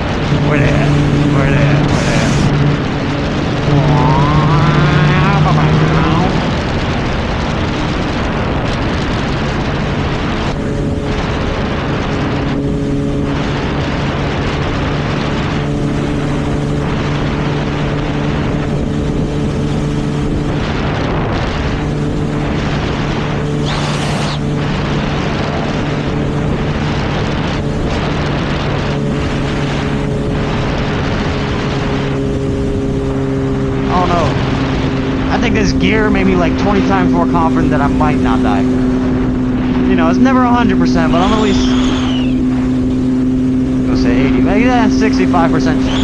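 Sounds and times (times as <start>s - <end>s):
motorcycle engine cruising: 0.0s - 46.0s
wind rush on microphone: 0.0s - 46.0s.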